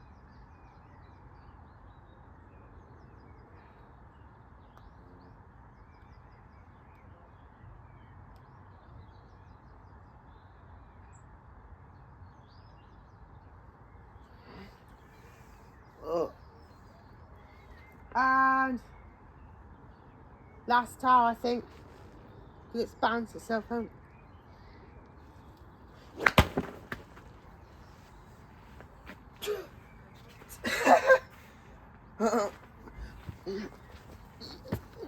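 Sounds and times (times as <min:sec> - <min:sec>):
faint birds chirping: 0:00.0 - 0:35.0.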